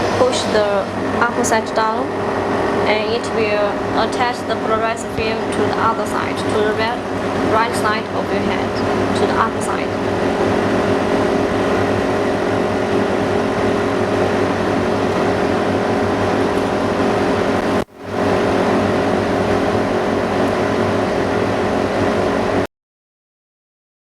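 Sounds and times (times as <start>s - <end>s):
electric machine hum: 0.0s - 22.7s.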